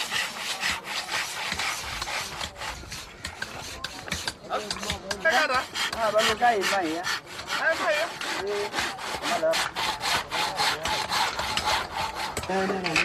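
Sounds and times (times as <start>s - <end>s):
hand adze chipping wood: 0.0s - 13.0s.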